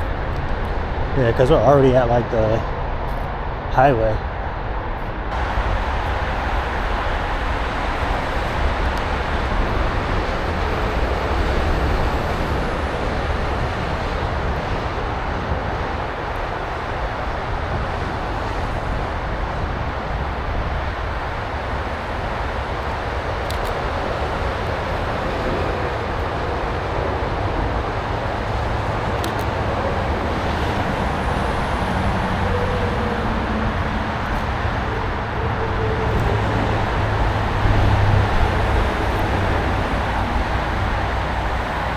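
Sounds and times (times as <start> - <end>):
highway traffic rumble: 0.0 - 41.9.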